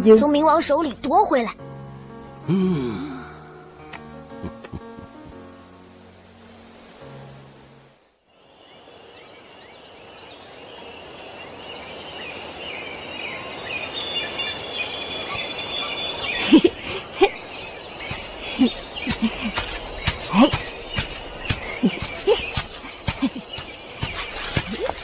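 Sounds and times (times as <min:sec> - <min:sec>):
birdsong in woodland: 0:00.0 - 0:25.0
crickets chirping: 0:00.2 - 0:25.0.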